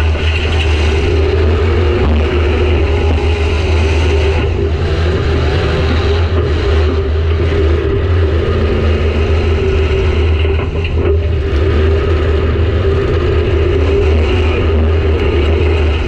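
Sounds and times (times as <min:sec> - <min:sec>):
car engine running loud: 0:00.0 - 0:16.0.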